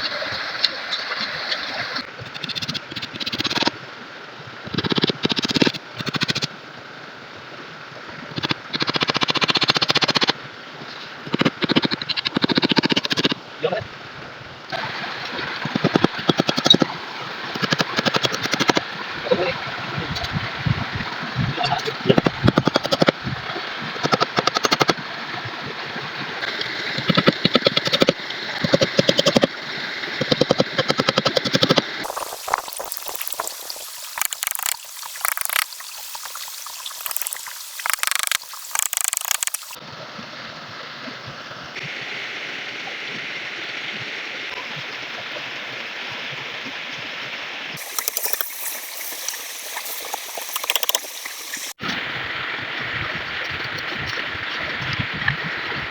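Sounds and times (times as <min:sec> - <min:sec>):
river water running: 0:00.0 - 0:55.9.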